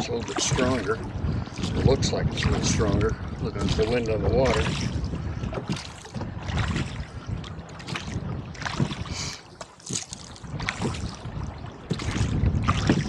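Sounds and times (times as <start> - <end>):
gusty wind on microphone: 0.0 - 13.0
oars splashing water: 0.0 - 13.0
water chop against hull: 0.0 - 13.0.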